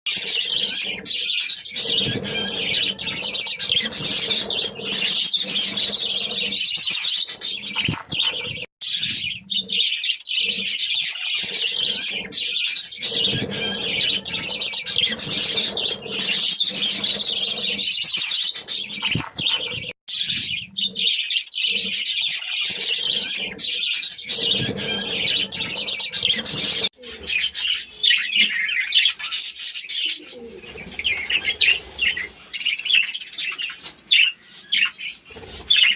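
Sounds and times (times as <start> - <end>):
parrots chattering and chirping: 0.1 - 35.9.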